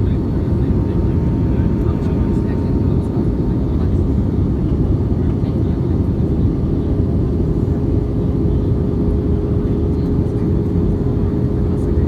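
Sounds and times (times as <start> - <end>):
airliner engine rumble: 0.0 - 12.0.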